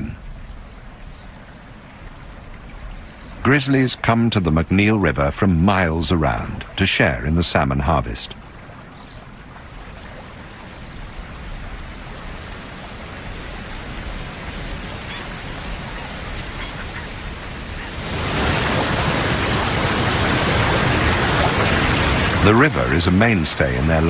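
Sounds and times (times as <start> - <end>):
fast river rushing: 0.0 - 24.0.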